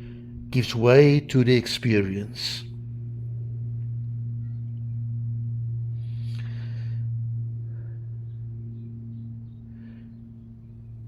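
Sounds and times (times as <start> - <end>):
low drone tone: 0.0 - 11.0.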